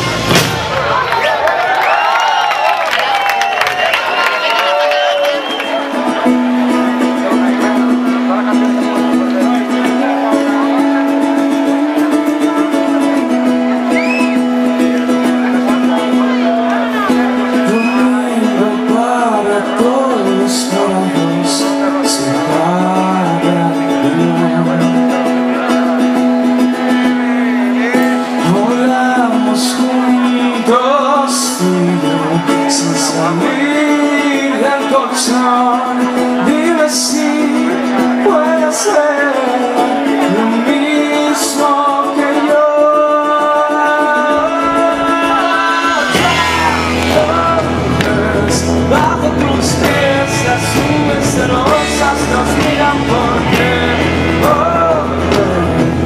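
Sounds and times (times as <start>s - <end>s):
electric guitar: 3.0s - 56.0s
man singing into a microphone: 5.4s - 56.0s
strummed ukulele: 5.5s - 56.0s.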